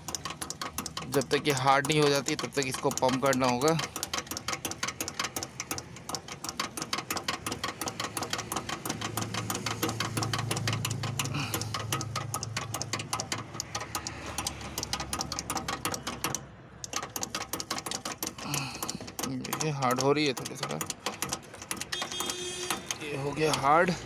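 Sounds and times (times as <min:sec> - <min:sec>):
hand pump clicking: 0:00.0 - 0:24.0.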